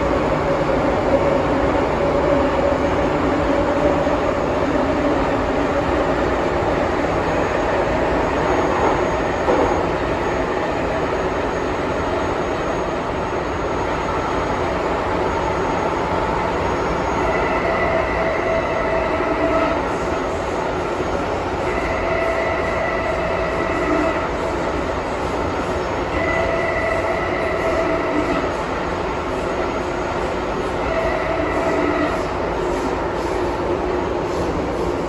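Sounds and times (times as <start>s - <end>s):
train wheels rumbling on rail: 0.0s - 35.0s
train whining tones: 0.0s - 35.0s.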